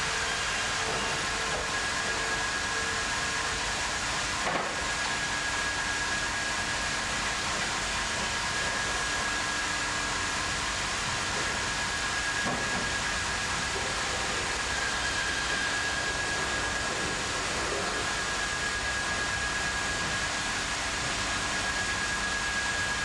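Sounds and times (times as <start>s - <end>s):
bandsaw running with high whine: 0.0s - 23.0s.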